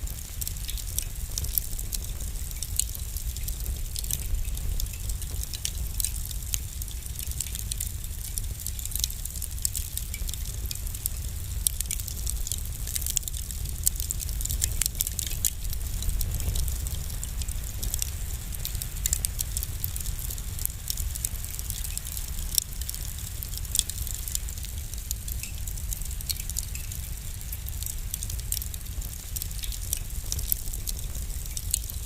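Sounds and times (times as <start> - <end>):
fireplace fire crackling: 0.0 - 32.0
low steady rumble: 0.0 - 32.0.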